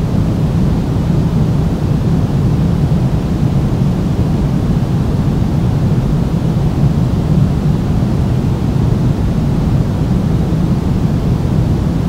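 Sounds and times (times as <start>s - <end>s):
steady pink noise: 0.0s - 12.0s.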